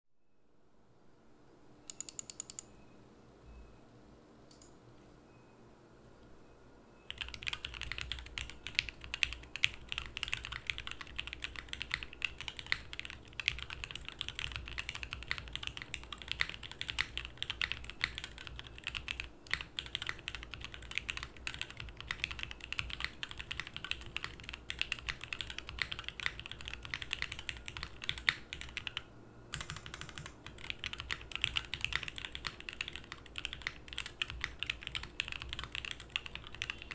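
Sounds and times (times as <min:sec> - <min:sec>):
fast typing on mechanical keyboard: 0:07.1 - 0:36.9.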